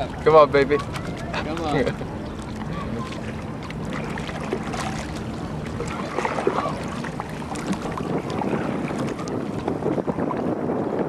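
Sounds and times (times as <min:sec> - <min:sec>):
small splashes: 0:00.0 - 0:09.7
water lapping against a hull: 0:00.0 - 0:11.0.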